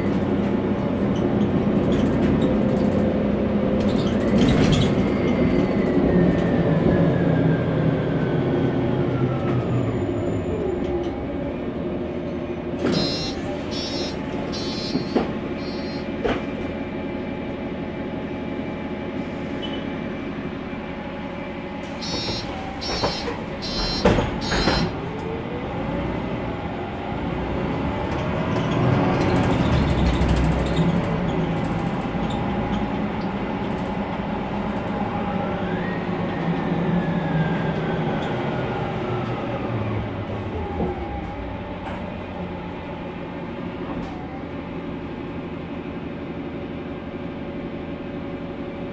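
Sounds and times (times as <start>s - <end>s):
bus engine and gearbox whining: 0.0s - 48.9s.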